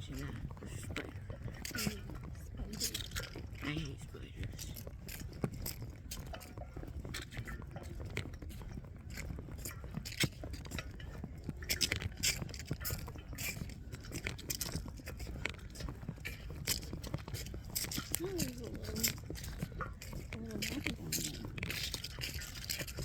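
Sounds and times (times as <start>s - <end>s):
footsteps crunching on trail: 0.0s - 23.0s.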